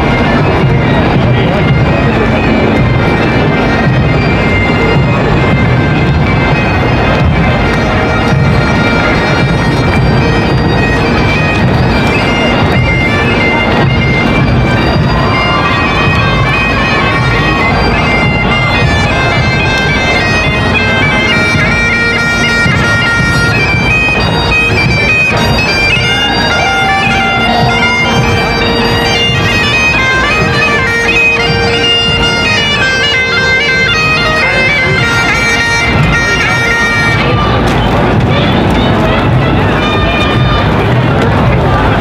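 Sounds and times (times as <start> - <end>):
bagpipes playing a march: 0.0 - 42.0.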